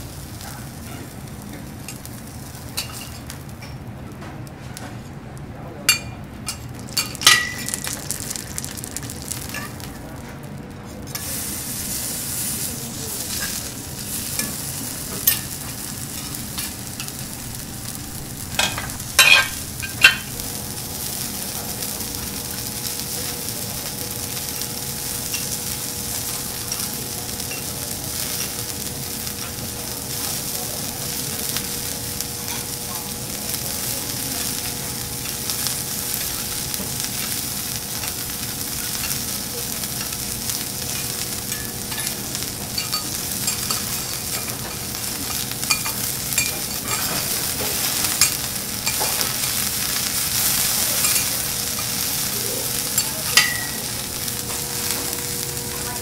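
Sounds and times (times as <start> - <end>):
food sizzling on a griddle: 0.0 - 56.0.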